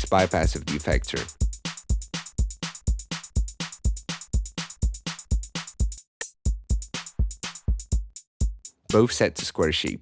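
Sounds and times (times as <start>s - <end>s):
electronic drum machine loop: 0.0s - 10.0s.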